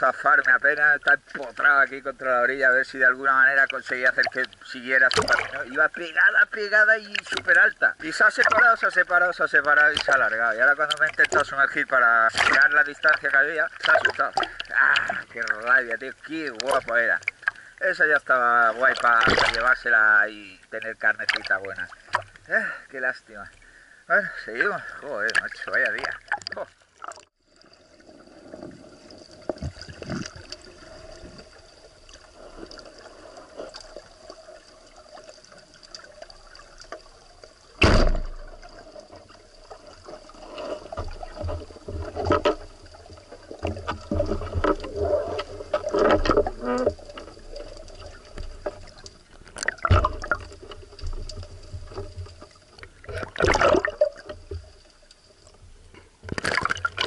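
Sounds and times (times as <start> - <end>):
underwater gurgling and bubbling: 0.0 - 17.8, 27.1 - 55.6.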